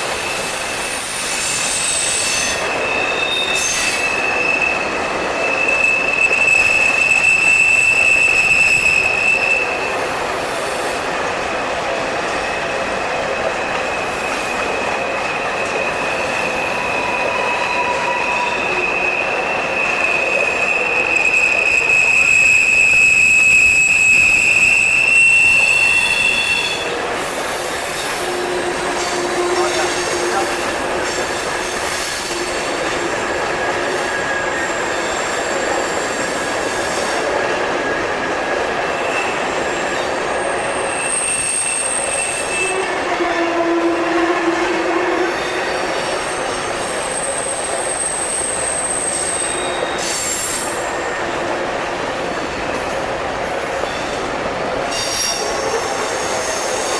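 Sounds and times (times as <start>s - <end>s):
train wheels squealing: 0.0s - 11.2s, 12.2s - 51.5s, 53.5s - 56.9s
rumble of train wheels: 0.0s - 56.9s.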